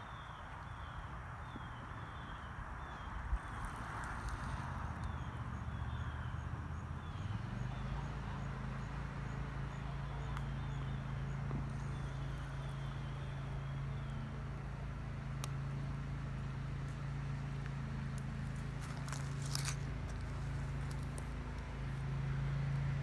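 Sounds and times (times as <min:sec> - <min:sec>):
low motor hum: 0:02.8 - 0:23.0.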